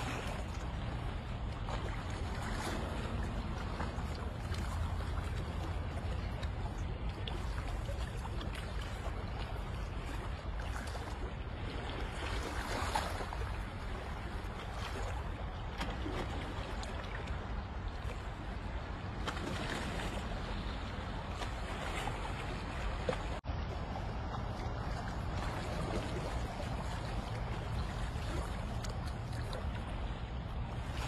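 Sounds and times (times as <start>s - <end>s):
sea water sloshing: 0.0s - 31.0s
wind on microphone: 0.0s - 31.0s.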